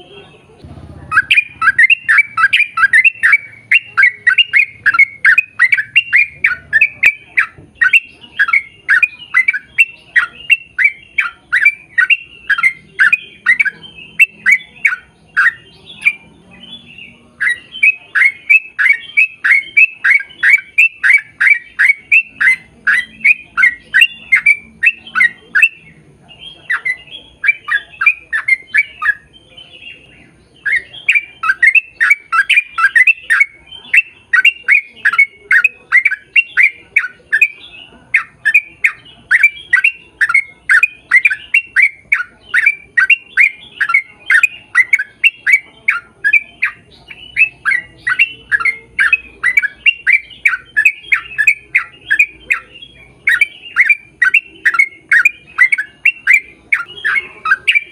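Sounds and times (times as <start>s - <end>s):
bird chirping rapidly: 0.0s - 57.9s.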